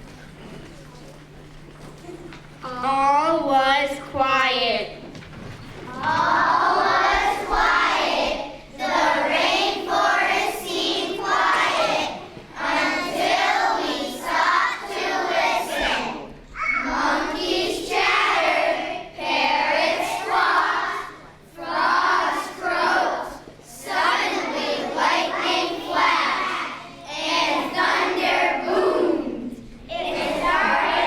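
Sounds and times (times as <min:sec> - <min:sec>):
children singing together: 0:05.9 - 0:31.0.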